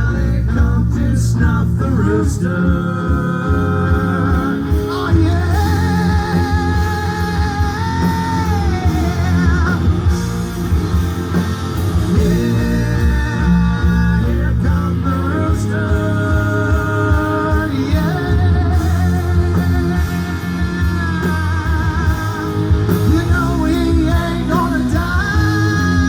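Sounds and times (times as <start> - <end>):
hard rock song: 0.0 - 26.0.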